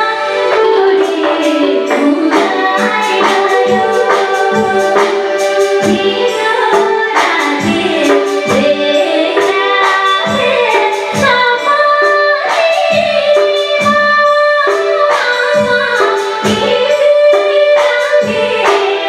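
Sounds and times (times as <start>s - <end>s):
drum strokes: 0.0s - 19.0s
instrumental accompaniment: 0.0s - 19.0s.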